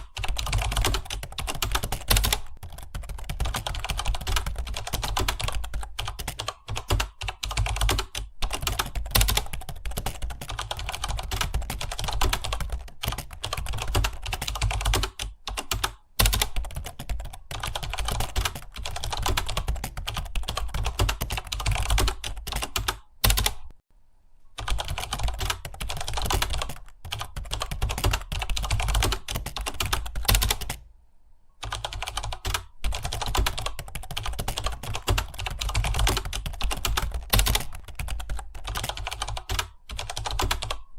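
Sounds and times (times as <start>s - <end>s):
fast typing on computer keyboard: 0.0s - 23.7s, 24.6s - 30.8s, 31.6s - 40.9s.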